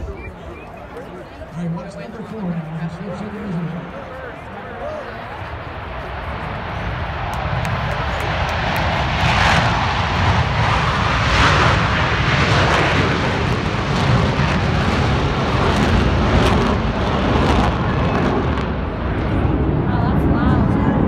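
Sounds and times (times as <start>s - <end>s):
military jets roaring overhead: 0.0s - 21.0s.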